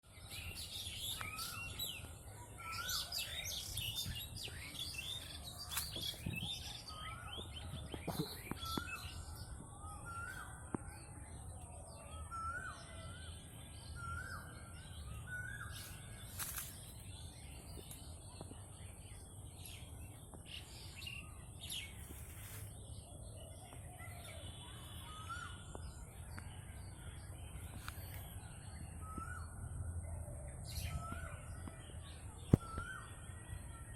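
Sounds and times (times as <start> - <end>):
bird chirps: 0.0 - 33.9.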